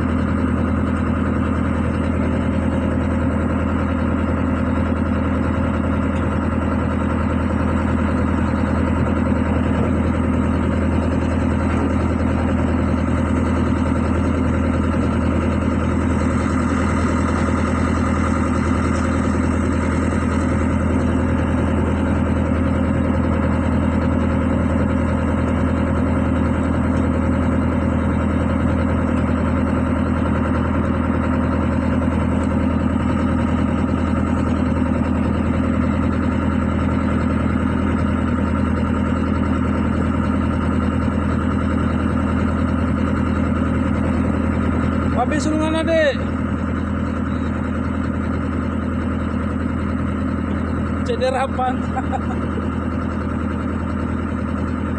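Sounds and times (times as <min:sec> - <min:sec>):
diesel engine idling: 0:00.0 - 0:54.9.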